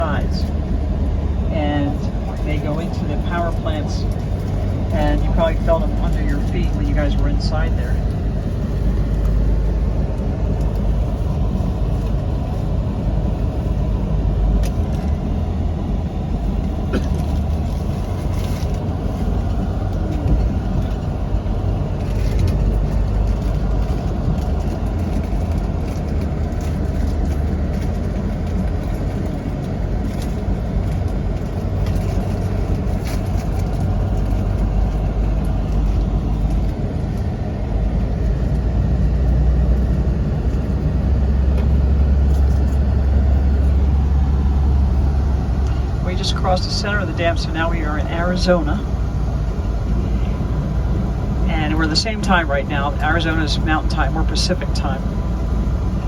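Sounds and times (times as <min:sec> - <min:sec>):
jeep engine and road rumble: 0:00.0 - 0:56.0.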